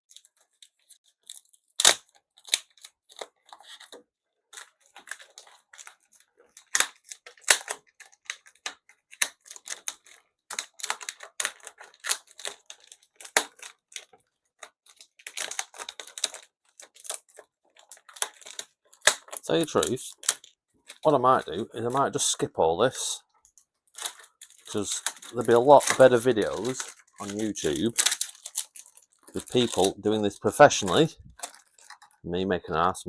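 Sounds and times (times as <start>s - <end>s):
packing tape being peeled: 0.1s - 22.3s, 23.9s - 32.2s
plastic packaging crackling: 0.1s - 32.2s.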